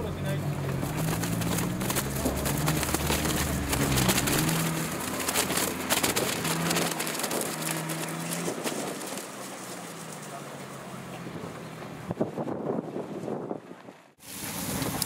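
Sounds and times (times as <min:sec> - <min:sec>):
car engine running at low revs: 0:00.0 - 0:13.6.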